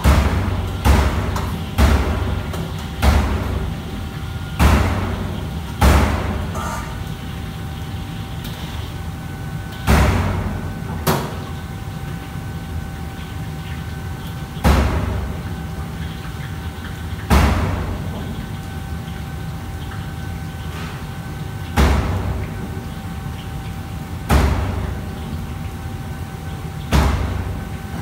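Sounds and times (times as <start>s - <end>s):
range and extraction hood running: 0.0s - 28.0s.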